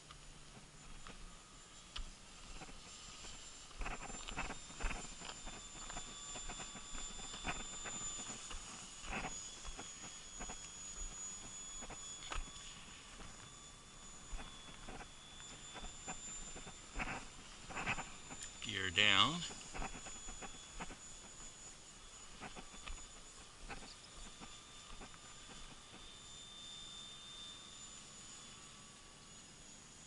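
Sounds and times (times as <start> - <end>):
electric motor whine: 0.0 - 30.0.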